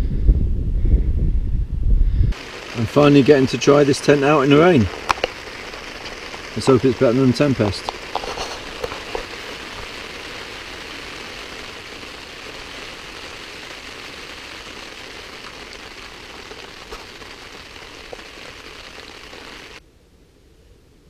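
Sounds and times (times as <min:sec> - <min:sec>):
rain on a tent: 0:02.3 - 0:19.8
single raindrops: 0:02.3 - 0:19.8.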